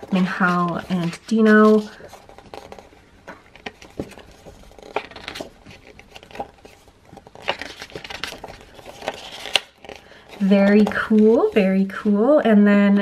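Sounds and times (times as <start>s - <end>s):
glossy paper pages turning: 0.0s - 12.0s.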